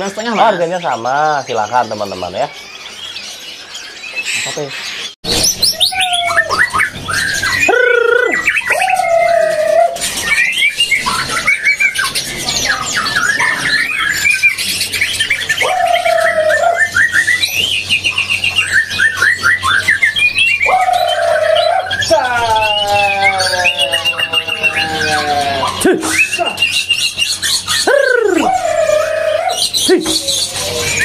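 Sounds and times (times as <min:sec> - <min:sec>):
rapid bird trill: 0:00.0 - 0:31.0
songbirds chirping and singing: 0:00.0 - 0:31.0
low drawn-out bird call: 0:05.3 - 0:31.0.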